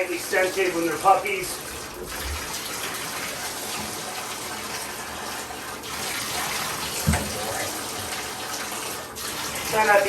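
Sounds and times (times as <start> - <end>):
water running into bathtub: 0.0 - 10.0.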